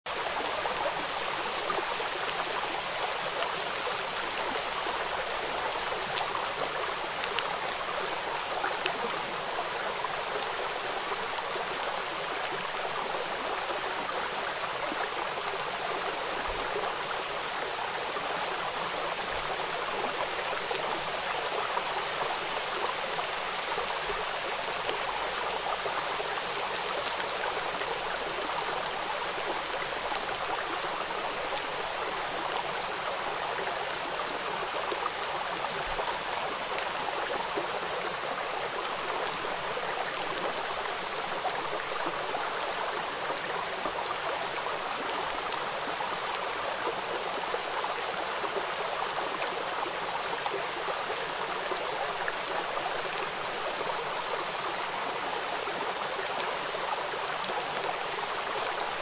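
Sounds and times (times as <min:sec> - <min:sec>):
heavy rain on hard surface: 0:00.1 - 0:59.0.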